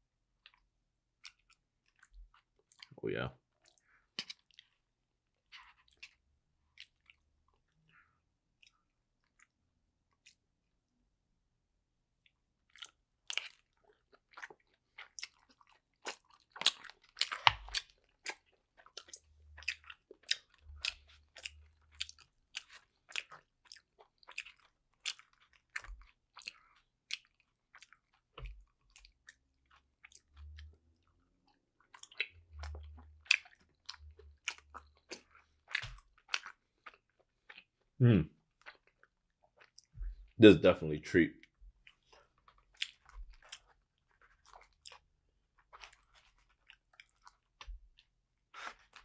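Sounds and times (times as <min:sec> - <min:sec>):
close-miked chewing: 0:01.2 - 0:10.5, 0:12.6 - 0:40.4, 0:41.4 - 0:49.0.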